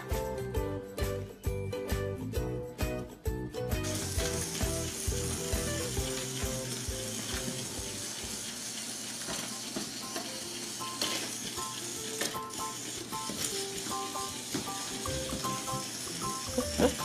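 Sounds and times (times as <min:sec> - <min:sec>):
light background melody: 0:00.0 - 0:08.5, 0:09.4 - 0:17.0.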